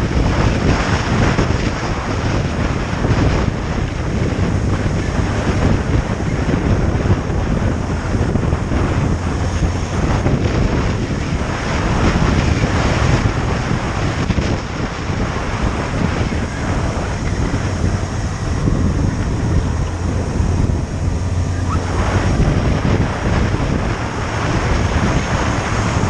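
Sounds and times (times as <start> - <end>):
motorcycle engine drone: 0.0 - 26.0
wind rush on microphone: 0.0 - 26.0.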